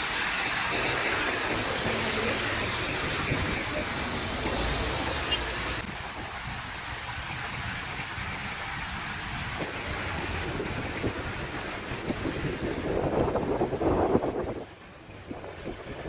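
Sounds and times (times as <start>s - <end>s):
storm wind buffeting microphone: 0.6s - 16.0s.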